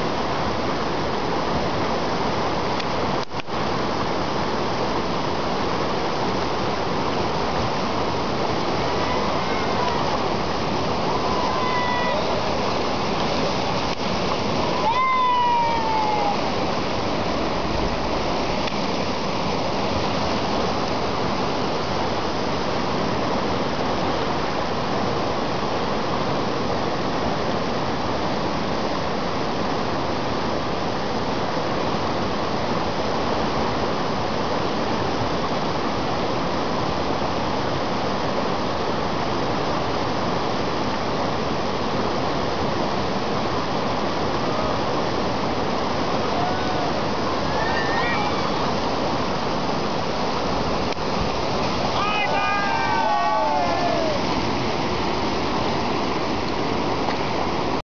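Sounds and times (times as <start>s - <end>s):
river rapids rushing: 0.0s - 57.8s.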